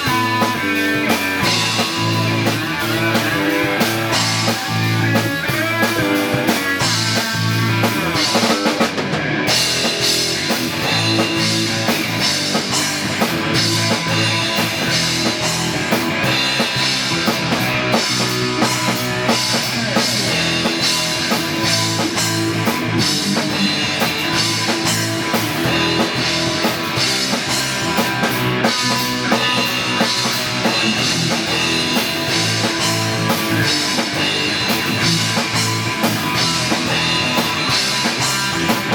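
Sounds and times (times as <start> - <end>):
drum kit: 0.0 - 38.9
guitar playing: 0.0 - 38.9
rock music: 0.0 - 38.9.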